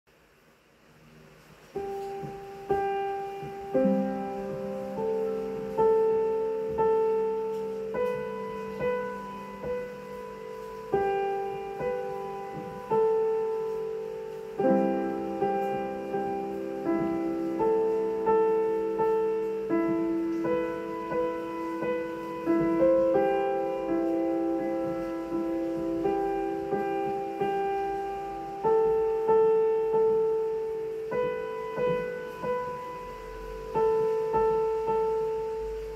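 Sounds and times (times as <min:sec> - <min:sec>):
slow solo piano: 0:00.1 - 0:35.9.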